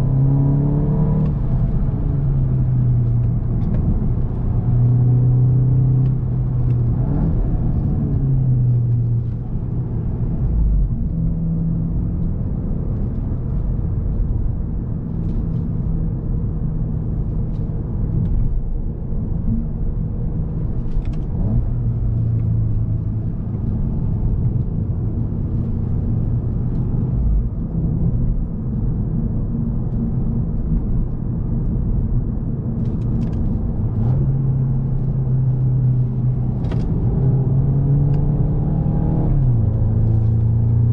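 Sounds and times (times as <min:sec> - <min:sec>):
car engine droning: 0:00.0 - 0:40.9
road rumble: 0:00.0 - 0:40.9.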